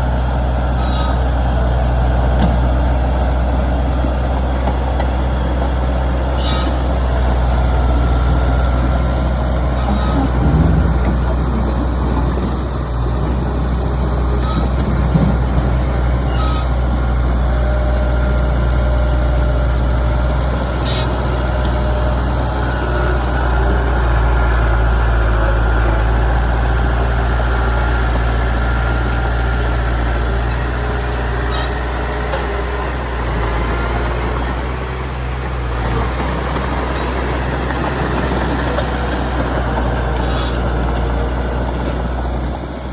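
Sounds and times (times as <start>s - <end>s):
diesel engine droning: 0.0s - 42.9s.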